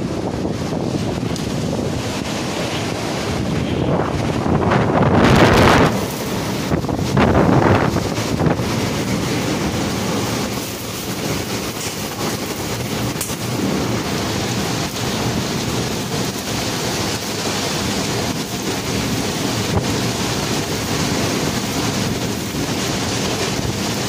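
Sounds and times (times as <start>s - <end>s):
heavy rain: 0.0s - 24.0s
strong wind: 0.0s - 24.0s.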